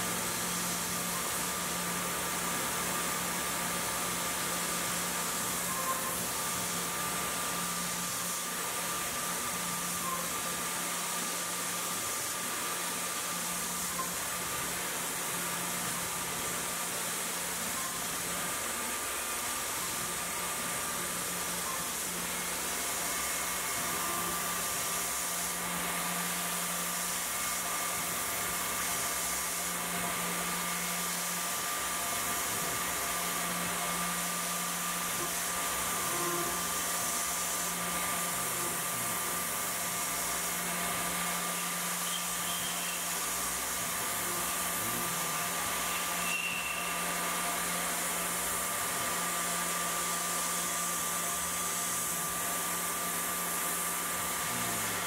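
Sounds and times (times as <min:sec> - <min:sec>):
coolant spray hiss: 0:00.0 - 0:55.0
mill spindle humming: 0:00.0 - 0:55.0.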